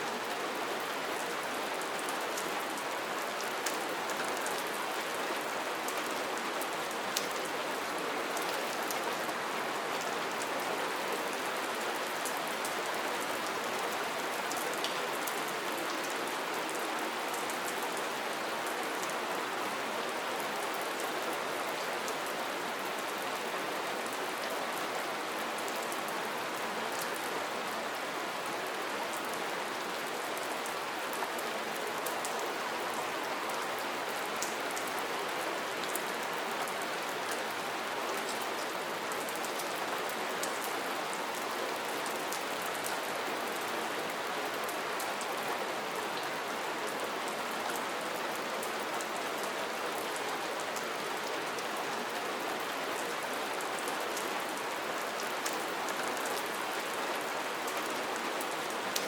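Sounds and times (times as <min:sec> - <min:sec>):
rain pattering: 0:00.1 - 0:19.4, 0:29.1 - 0:59.0.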